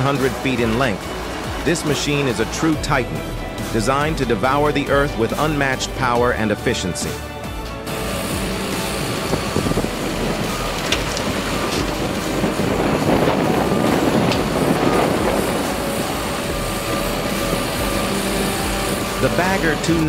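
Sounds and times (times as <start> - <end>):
excavator rumbling and rattling: 0.0 - 20.0.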